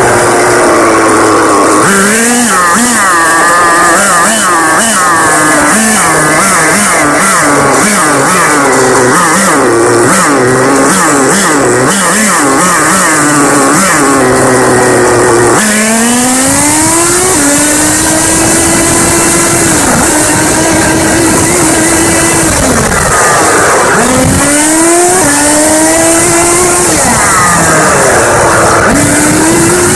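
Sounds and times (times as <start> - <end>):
small two-stroke engine revving: 0.0 - 29.9.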